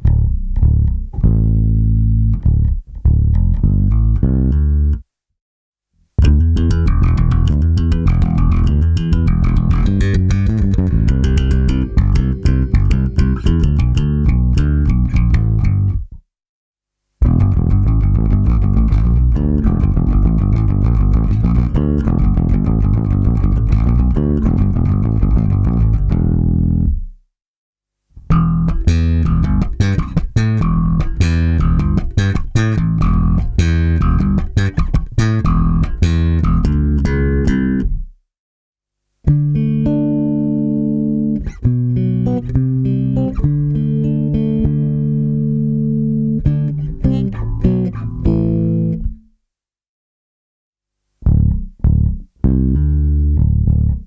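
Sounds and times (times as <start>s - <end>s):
electric bass guitar: 0.0s - 5.1s, 6.2s - 16.2s, 17.2s - 27.2s, 28.2s - 38.1s, 39.2s - 49.2s, 51.2s - 54.0s.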